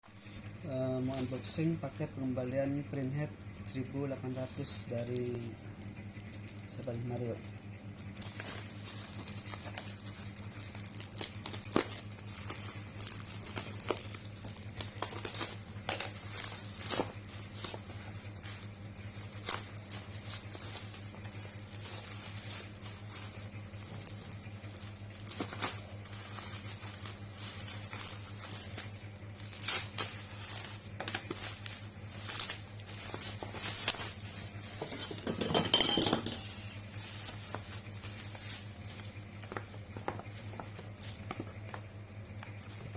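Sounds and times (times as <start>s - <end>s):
steady low hum: 0.0s - 42.9s
packaging rustling: 8.0s - 42.9s.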